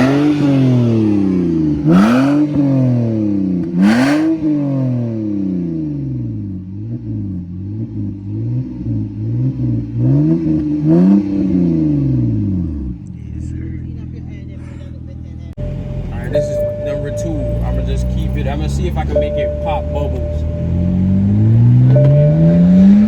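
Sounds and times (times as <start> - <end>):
car engine revving: 0.0 - 13.7, 15.5 - 23.0.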